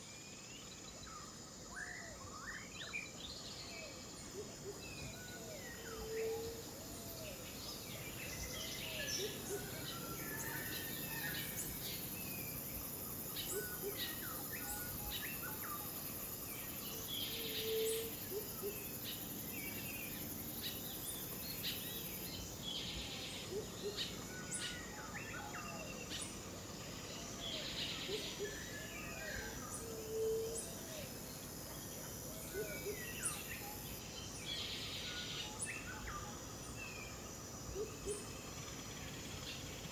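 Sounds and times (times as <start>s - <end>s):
high insect hiss: 0.0s - 39.9s
insects buzzing: 0.0s - 39.9s.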